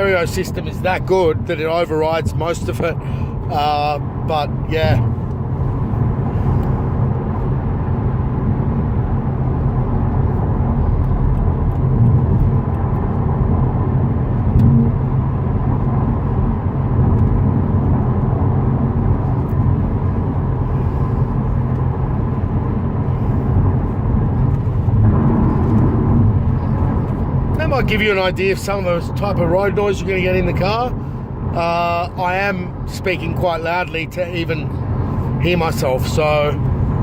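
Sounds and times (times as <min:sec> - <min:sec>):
tyre road noise rumble: 0:00.0 - 0:37.0.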